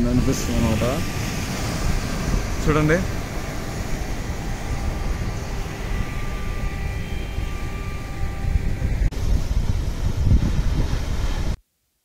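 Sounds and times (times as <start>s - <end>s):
faint thin whine: 0.0s - 11.6s
sea rushing at shore: 0.0s - 11.6s
wind rumble on microphone: 0.0s - 11.6s.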